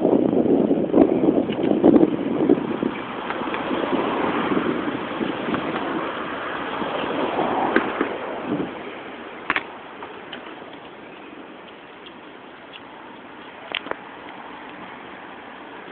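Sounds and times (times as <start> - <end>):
bicycle road and wind noise: 0.0 - 15.9.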